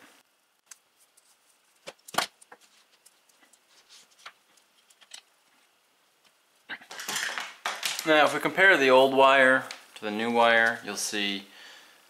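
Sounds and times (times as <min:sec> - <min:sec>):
electrical tape clicks and crackles: 0:00.6 - 0:11.0.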